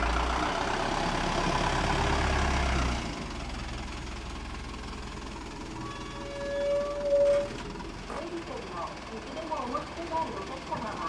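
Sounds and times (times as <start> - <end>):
bus diesel engine passing: 0.0 - 11.0.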